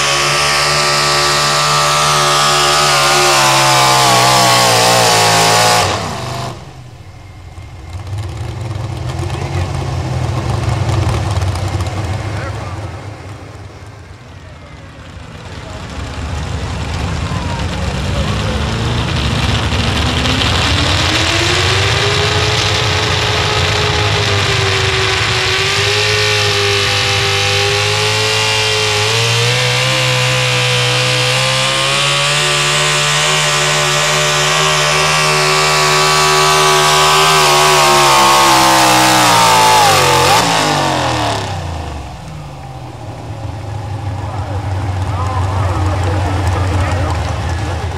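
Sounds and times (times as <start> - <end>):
truck engine at high revs: 0.0 - 47.9.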